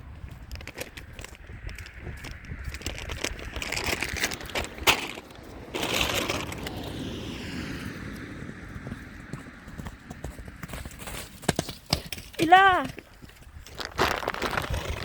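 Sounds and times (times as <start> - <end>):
horse hooves clopping: 0.0 - 6.8, 8.0 - 15.0.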